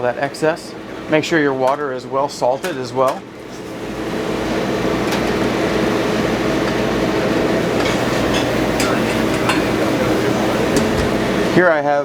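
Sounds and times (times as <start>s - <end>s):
kitchen ventilation hum: 0.0s - 12.0s.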